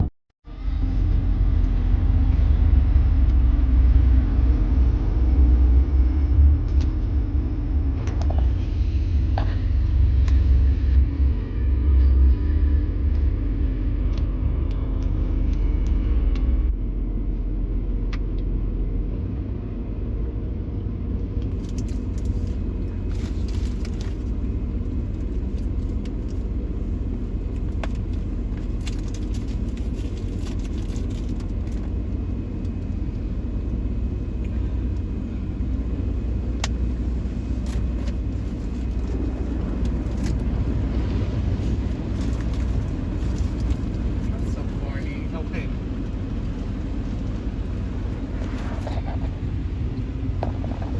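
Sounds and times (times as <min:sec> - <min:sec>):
car wash rumble inside car: 0:00.5 - 0:50.9.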